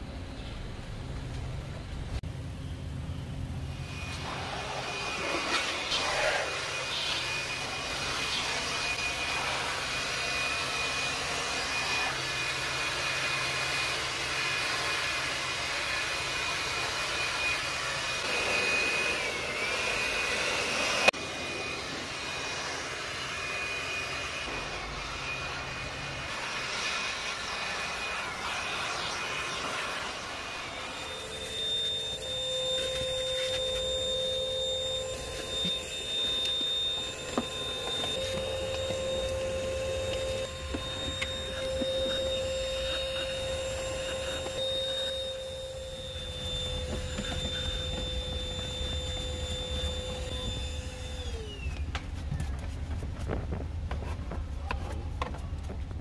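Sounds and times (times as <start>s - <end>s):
electric air blower running: 3.4s - 53.4s.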